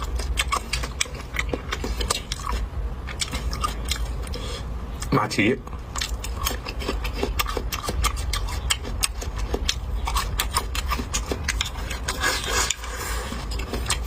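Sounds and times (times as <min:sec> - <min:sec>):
chewing crunchy food: 0:00.0 - 0:05.1, 0:05.7 - 0:14.0.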